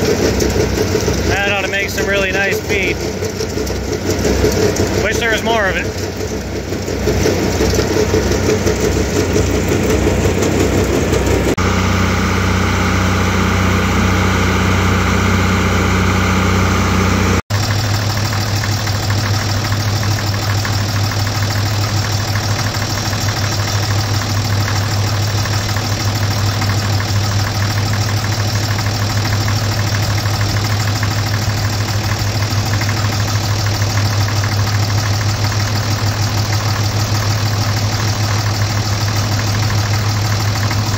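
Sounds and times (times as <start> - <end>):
forage chopper running: 0.0 - 40.9
tractor engine running: 0.0 - 40.9.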